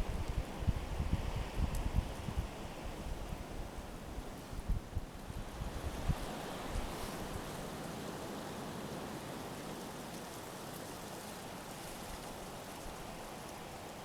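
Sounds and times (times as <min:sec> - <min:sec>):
wind and blowing snow hiss: 0:00.0 - 0:14.0.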